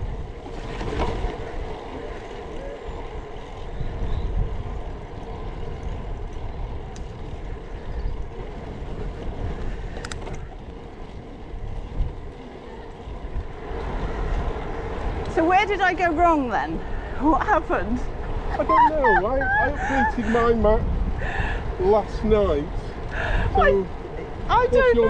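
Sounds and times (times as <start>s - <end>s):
bicycle road noise: 0.0s - 25.0s
wind on microphone: 0.0s - 25.0s.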